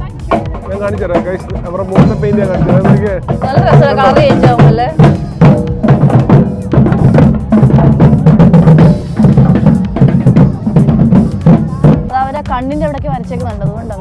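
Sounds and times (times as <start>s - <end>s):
group drumming on deep drums: 0.0s - 14.0s.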